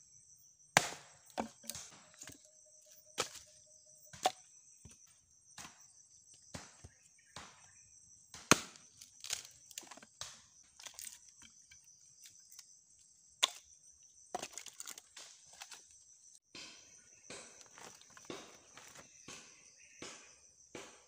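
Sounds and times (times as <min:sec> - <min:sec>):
axe chopping firewood: 0:00.7 - 0:11.6, 0:13.4 - 0:15.8, 0:16.5 - 0:21.0.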